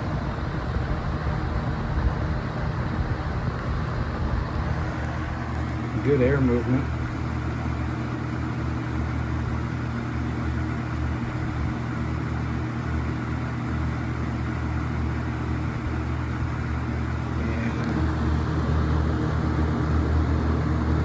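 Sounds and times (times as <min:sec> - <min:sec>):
box fan running: 0:00.0 - 0:21.0.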